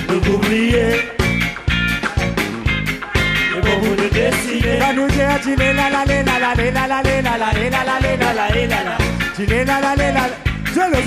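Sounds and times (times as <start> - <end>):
bass beat: 0.0 - 11.0
drums: 0.0 - 11.0
live band music through speakers: 0.0 - 11.0.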